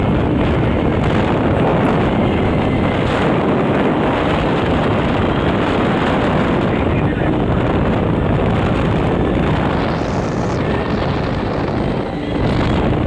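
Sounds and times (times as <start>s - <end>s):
ride car rumbling on track: 0.0s - 13.0s
wind on microphone: 0.0s - 13.0s.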